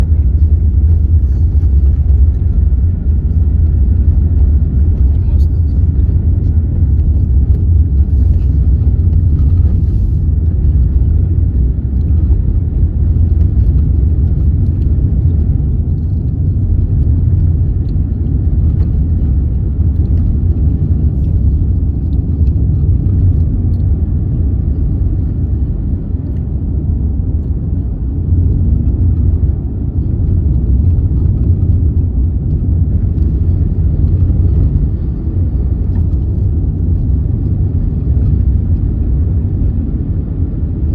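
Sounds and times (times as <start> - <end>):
moving vehicle rumble: 0.0 - 40.9.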